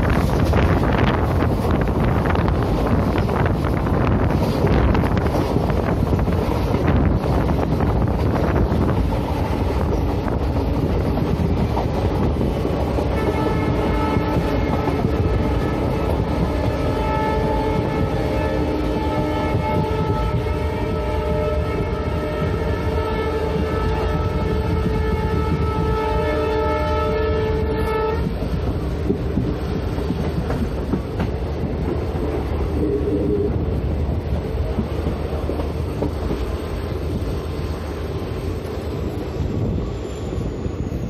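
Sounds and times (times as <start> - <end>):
train wheels rumbling on rails: 0.0 - 41.0
wind buffeting microphone: 0.0 - 41.0.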